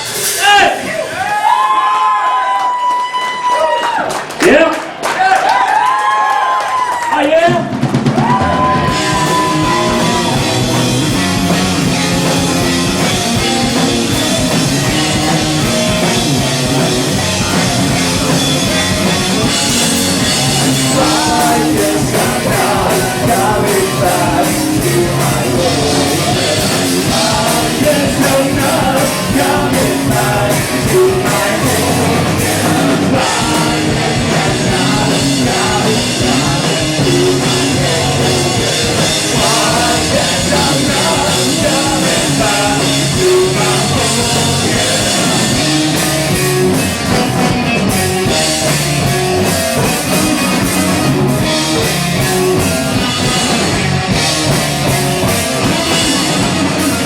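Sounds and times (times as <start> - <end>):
drum kit: 0.0 - 2.5, 7.3 - 57.0
bass guitar: 7.5 - 57.0
electric guitars: 7.6 - 57.0.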